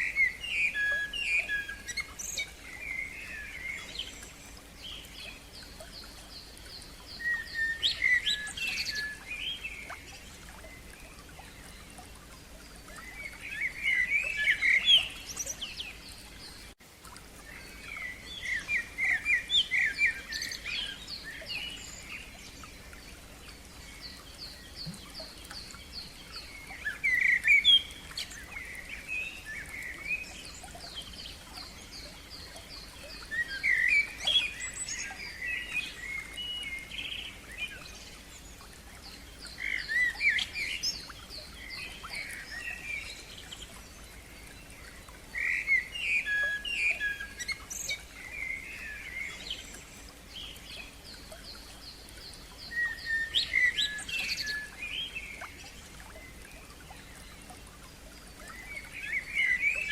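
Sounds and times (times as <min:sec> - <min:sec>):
faint steady background noise: 0:00.0 - 0:59.9
songbirds singing: 0:00.0 - 0:59.9.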